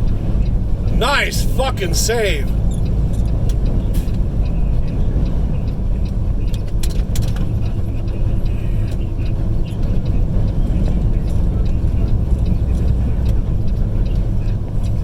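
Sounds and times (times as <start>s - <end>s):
road and wind noise in vehicle: 0.0s - 15.0s.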